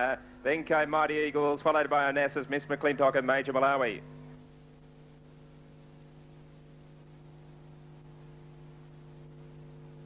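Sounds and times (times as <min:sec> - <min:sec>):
faint tape hiss: 0:00.0 - 0:10.0
low electrical hum: 0:00.0 - 0:10.0.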